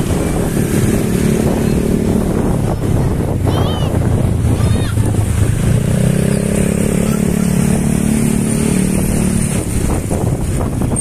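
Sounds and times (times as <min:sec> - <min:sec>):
motorcycle engine running: 0:00.0 - 0:11.0
road traffic: 0:00.0 - 0:11.0.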